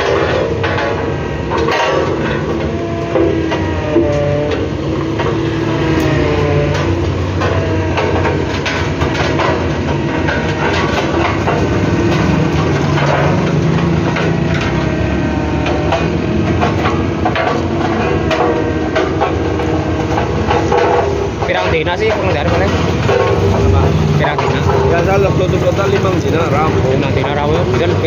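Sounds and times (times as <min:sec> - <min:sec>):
knocks and clanks: 0:00.0 - 0:28.0
road roller engine drone: 0:00.0 - 0:28.0.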